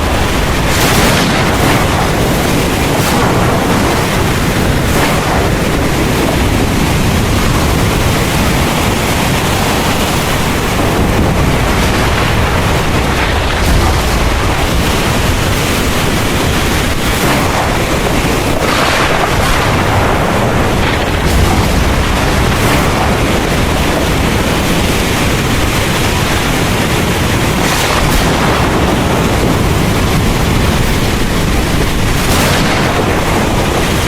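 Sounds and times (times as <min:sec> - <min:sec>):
heavy rain hissing: 0:00.0 - 0:34.0
low thunder rumble: 0:00.0 - 0:34.0.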